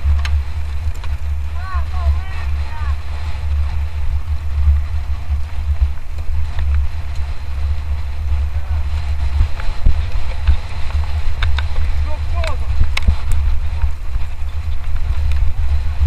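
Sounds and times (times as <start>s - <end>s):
bike clicks and rattles: 0.0s - 16.0s
wind rumbling on microphone: 0.0s - 16.0s.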